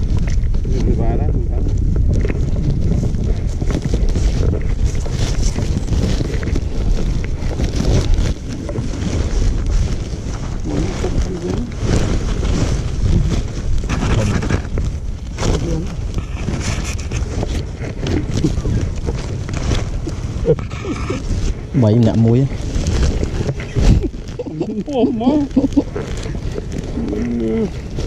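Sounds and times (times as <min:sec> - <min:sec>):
wind buffeting microphone: 0:00.0 - 0:28.0
plastic sack crinkling: 0:01.9 - 0:28.0.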